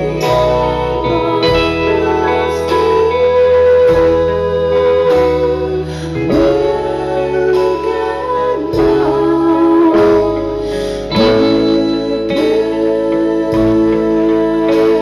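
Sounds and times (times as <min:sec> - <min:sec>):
guitar chords: 0:00.0 - 0:15.0
live band music: 0:00.0 - 0:15.0
low bass: 0:00.0 - 0:15.0.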